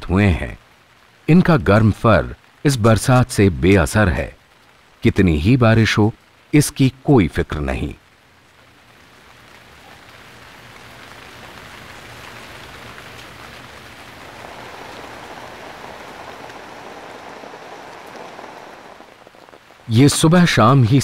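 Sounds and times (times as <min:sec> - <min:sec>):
rain on foliage: 0:00.0 - 0:21.0.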